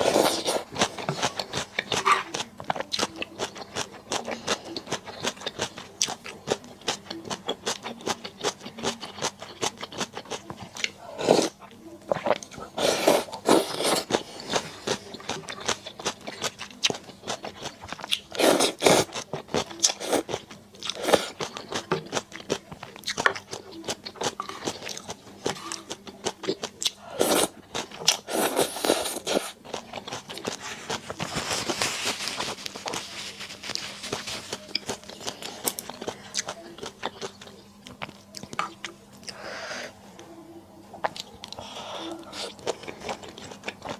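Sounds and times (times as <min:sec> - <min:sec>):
person chewing and crunching: 0:00.0 - 0:39.4, 0:41.0 - 0:43.9.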